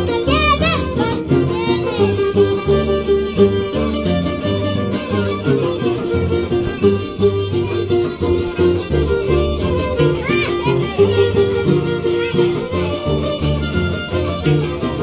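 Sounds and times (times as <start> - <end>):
harp plucking bass line: 0.0 - 15.0
violin melody: 0.0 - 15.0.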